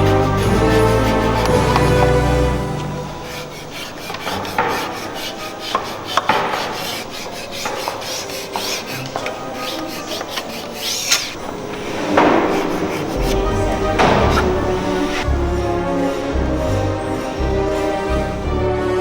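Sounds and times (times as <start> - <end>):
hand rubbing on wooden table: 0.0 - 18.4
sharp scrapes on wood: 0.0 - 18.5.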